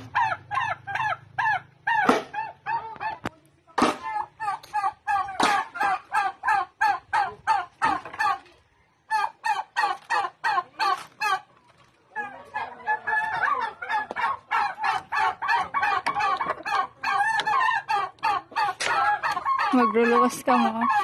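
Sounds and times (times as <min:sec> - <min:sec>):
chickens clucking and calling: 0:00.0 - 0:21.0.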